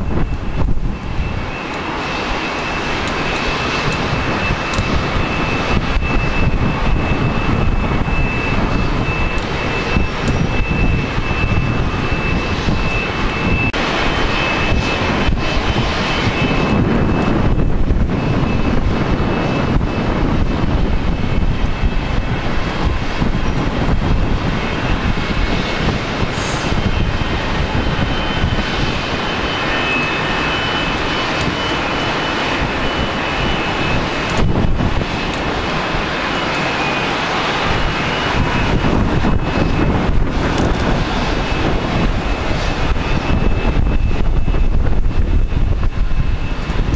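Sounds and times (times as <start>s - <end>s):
jet engine rush: 0.0s - 46.9s
jet engine whine: 0.0s - 46.9s.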